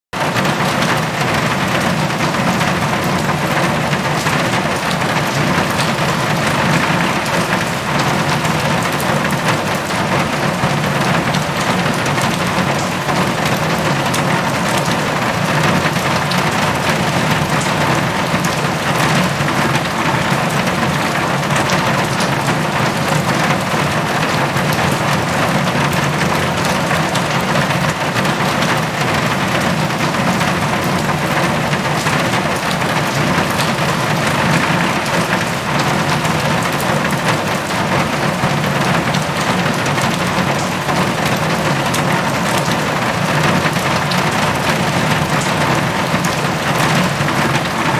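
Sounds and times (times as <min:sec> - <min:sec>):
heavy rain on a metal roof: 0:00.1 - 0:47.9.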